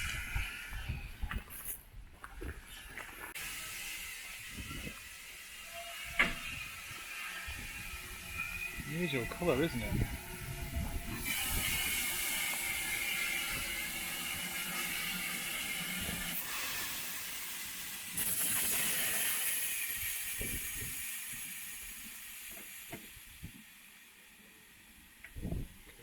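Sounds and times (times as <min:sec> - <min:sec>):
steam locomotive hissing: 0:00.0 - 0:01.2, 0:03.3 - 0:25.9.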